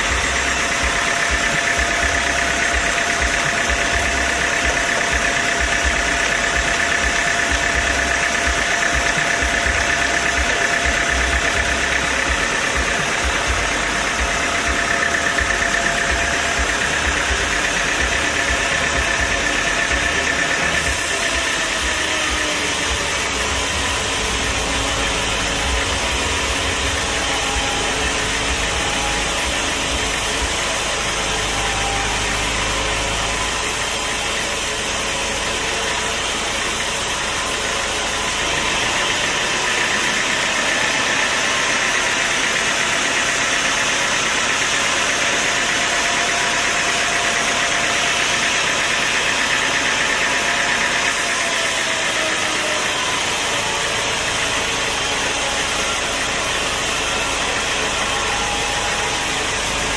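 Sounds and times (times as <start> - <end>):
sawmill machinery hum: 0.0 - 59.9
steady machine whine: 0.0 - 59.9.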